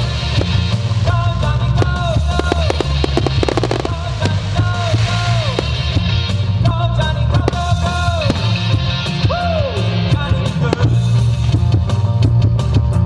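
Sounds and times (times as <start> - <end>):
firework bangs and crackles: 0.0 - 12.0.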